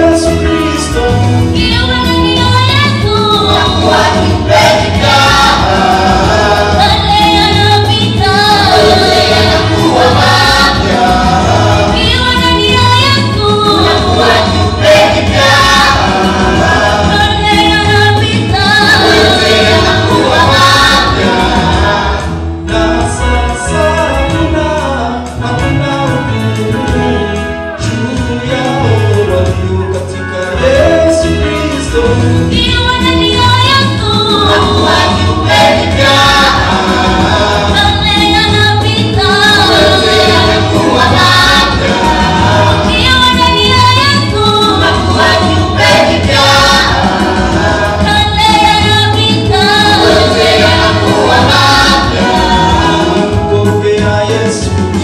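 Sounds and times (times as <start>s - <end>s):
steady bass beat: 0.0s - 27.2s, 30.6s - 54.9s
choir singing gospel: 0.0s - 55.0s.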